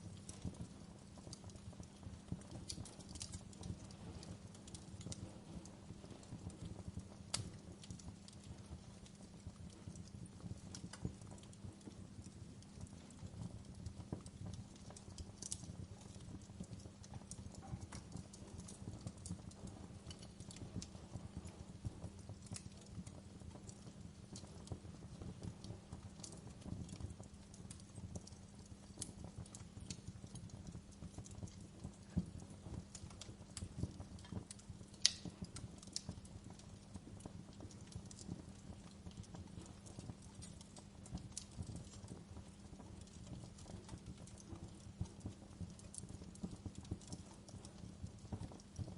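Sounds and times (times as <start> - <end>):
burning wood crackling and popping: 0.0 - 48.9
campfire burning with low rumble: 0.0 - 48.9.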